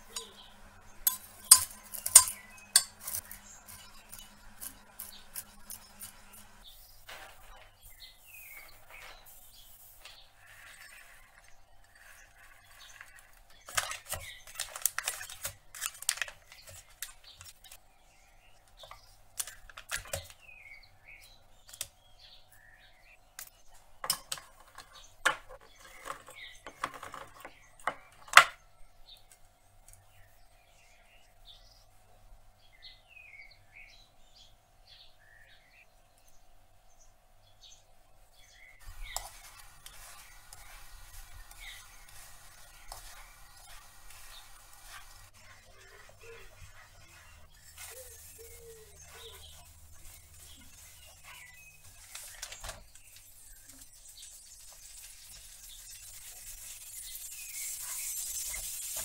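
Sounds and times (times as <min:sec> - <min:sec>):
birds chirping: 0:00.0 - 0:15.4, 0:16.2 - 0:59.0.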